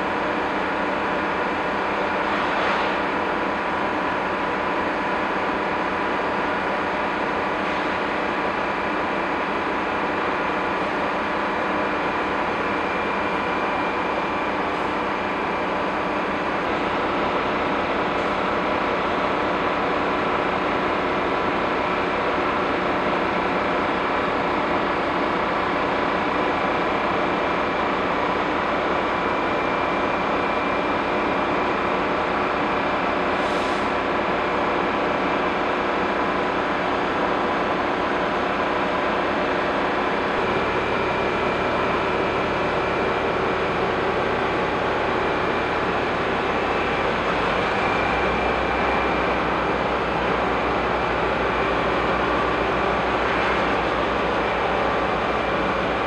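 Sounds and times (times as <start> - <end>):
diesel train idling drone: 0.0 - 56.0.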